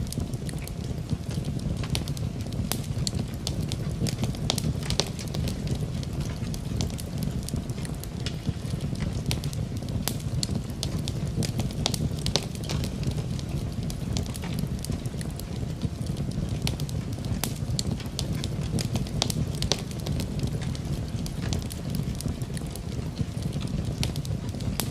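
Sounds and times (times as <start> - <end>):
fireplace fire crackling: 0.0 - 24.9
rain hiss: 0.0 - 24.9.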